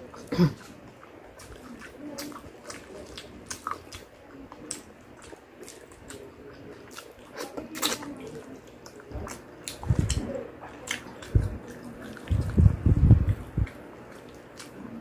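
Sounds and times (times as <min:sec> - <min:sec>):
wet chewing and mouth smacks: 0:00.0 - 0:15.0.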